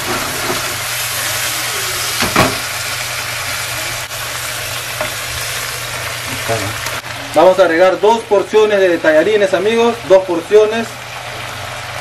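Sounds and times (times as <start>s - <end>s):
meat and onions sizzling in pan: 0.0s - 12.0s.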